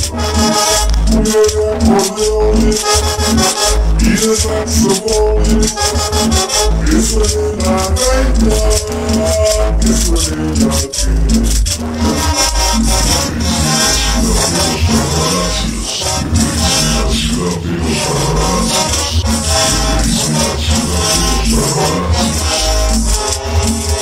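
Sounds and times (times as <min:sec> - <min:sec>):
cumbia music: 0:00.0 - 0:24.0
rhythmic percussion: 0:00.0 - 0:24.0
steady bass beat: 0:00.0 - 0:24.0.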